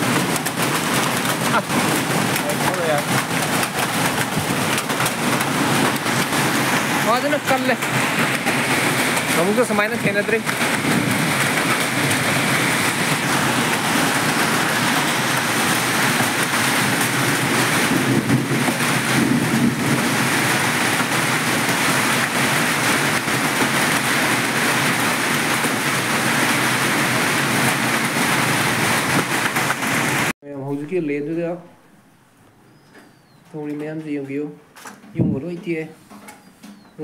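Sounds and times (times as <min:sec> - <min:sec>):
hailstones pelting down: 0:00.0 - 0:30.3.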